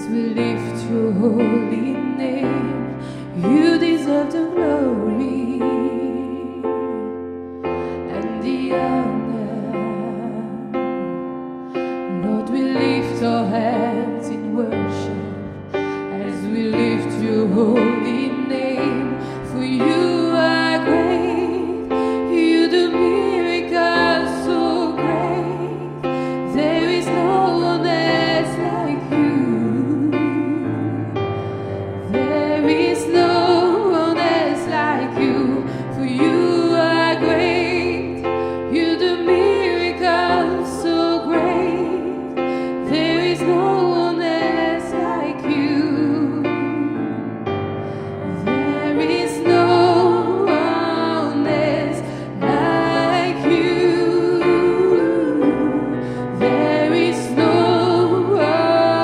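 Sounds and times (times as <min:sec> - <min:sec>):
women singing gospel song: 0:00.0 - 0:07.2, 0:07.9 - 0:11.0, 0:11.8 - 0:47.4, 0:48.1 - 0:59.0.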